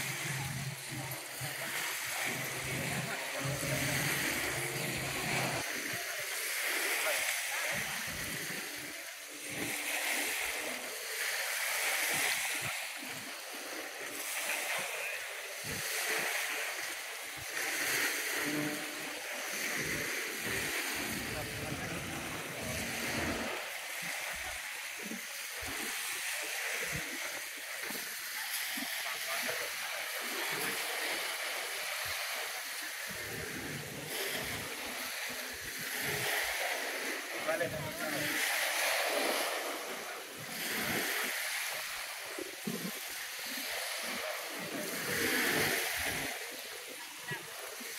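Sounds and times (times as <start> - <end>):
lake water lapping on shore: 0.0 - 47.9.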